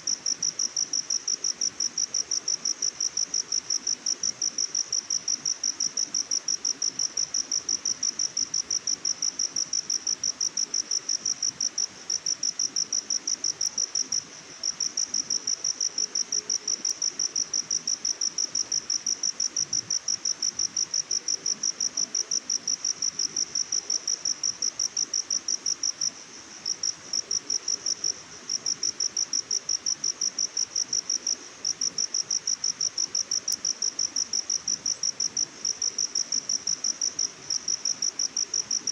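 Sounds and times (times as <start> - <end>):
faint background hiss: 0.0 - 38.9
insect chirping: 0.1 - 38.9.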